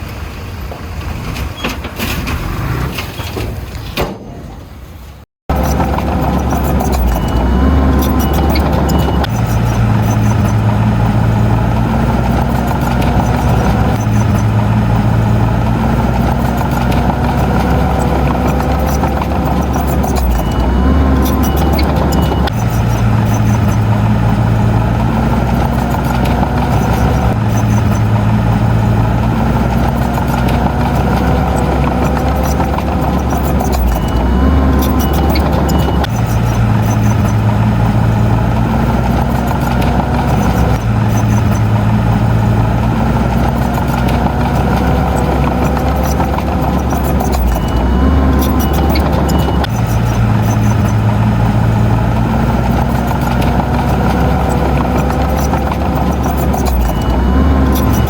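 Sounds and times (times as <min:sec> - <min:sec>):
heavy diesel engine running: 0:05.5 - 0:58.0.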